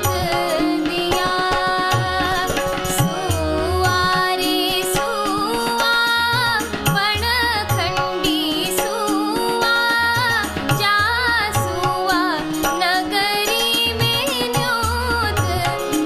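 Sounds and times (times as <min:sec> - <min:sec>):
instrumental accompaniment: 0:00.0 - 0:16.0
woman singing folk song: 0:00.0 - 0:16.0.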